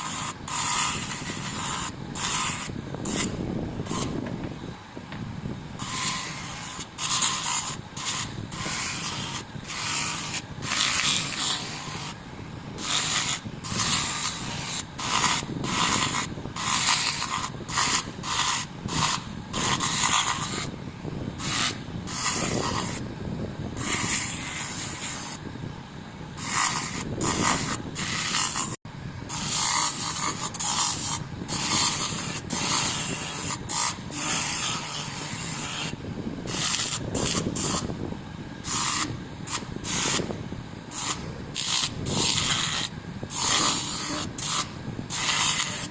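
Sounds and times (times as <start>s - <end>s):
sandpaper scratching metal: 0.0s - 4.2s, 5.8s - 20.8s, 21.4s - 23.1s, 23.8s - 25.4s, 26.4s - 45.9s.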